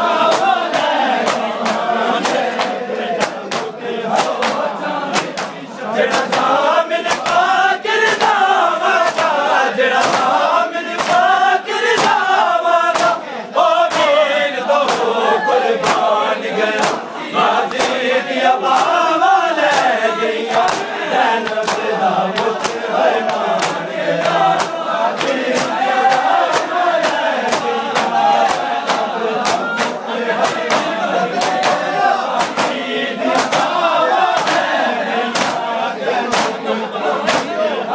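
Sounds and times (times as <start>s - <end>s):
crowd of men chanting: 0.0s - 37.9s
hands slapping chests: 0.1s - 13.2s, 13.9s - 14.2s, 14.8s - 15.2s, 15.8s - 18.0s, 18.6s - 35.7s, 36.3s - 36.6s, 37.2s - 37.6s.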